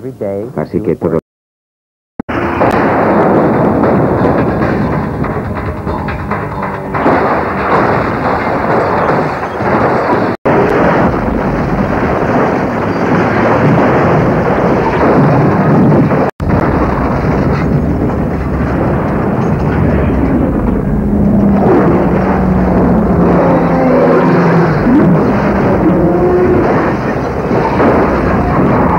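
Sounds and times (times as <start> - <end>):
cars crashing and tumbling: 2.3 - 28.9.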